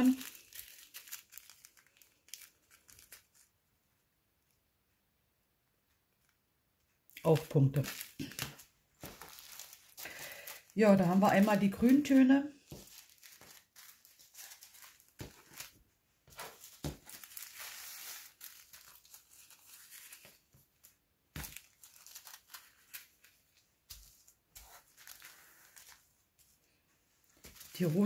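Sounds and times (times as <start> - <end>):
plastic bags crinkling: 0.0 - 3.5, 7.2 - 26.1, 27.2 - 28.0.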